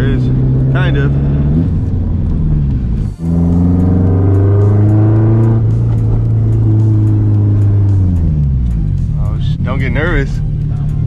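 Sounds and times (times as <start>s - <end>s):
car engine running while driving: 0.0s - 11.0s.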